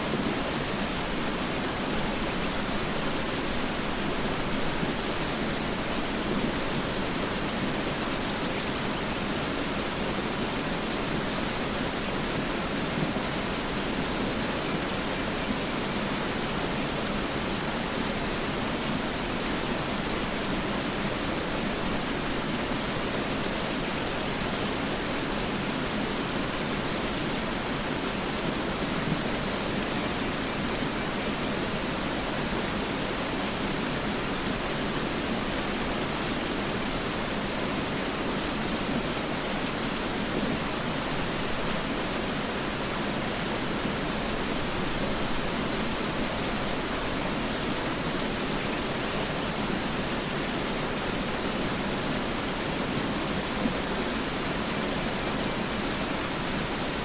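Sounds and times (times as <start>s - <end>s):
mountain river flowing: 0.0s - 57.0s.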